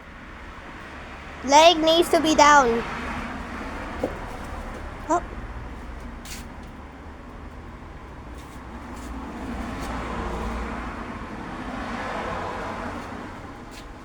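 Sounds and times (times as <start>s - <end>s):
road vehicle passing: 0.1s - 14.0s.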